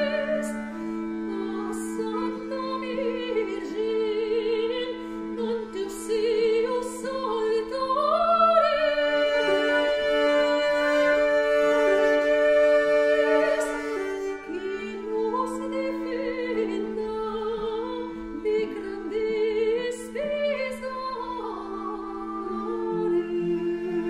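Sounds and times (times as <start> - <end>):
bowed fiddle drone: 0.0 - 24.0
woman singing: 0.0 - 24.0.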